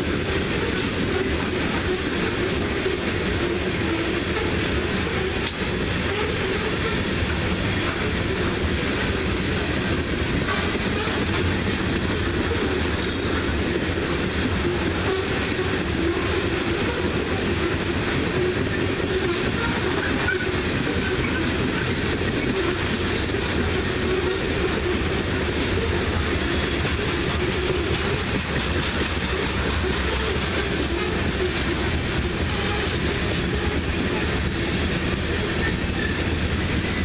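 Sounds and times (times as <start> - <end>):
train cars rumbling past: 0.0 - 37.0
wheels clacking over rail joints: 0.0 - 37.0.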